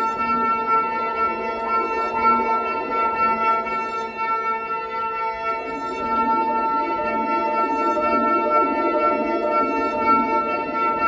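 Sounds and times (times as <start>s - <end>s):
ambient electric violin and electronics: 0.0s - 11.0s.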